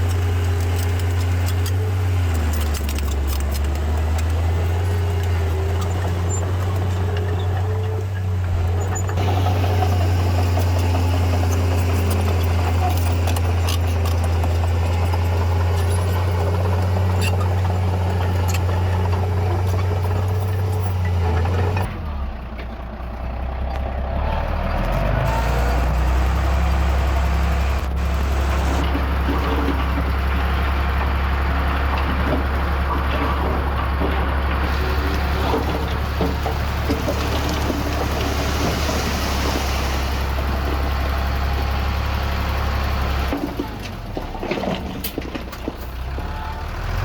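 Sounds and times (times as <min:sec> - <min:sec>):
diesel engine of earthmoving equipment: 0:00.0 - 0:47.0.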